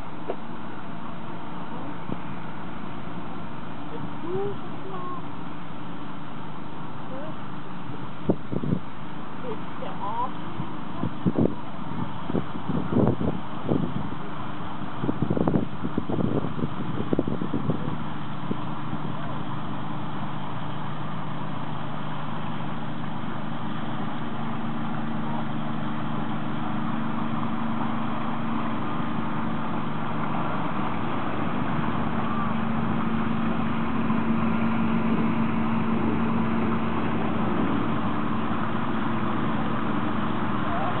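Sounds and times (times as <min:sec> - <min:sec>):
ship diesel engine humming: 0:00.0 - 0:41.0.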